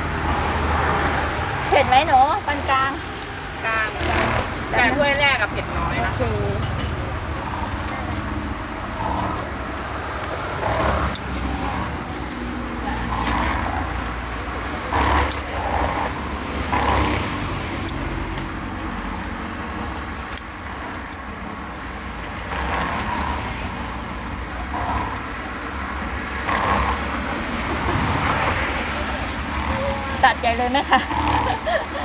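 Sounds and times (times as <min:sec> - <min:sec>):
road traffic rumble: 0:00.0 - 0:32.0
sharp clicks: 0:03.2 - 0:30.2.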